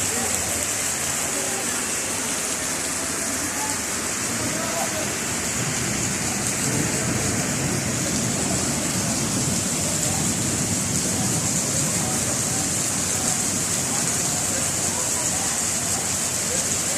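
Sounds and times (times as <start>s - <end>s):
heavy rain downpour: 0.0s - 16.9s.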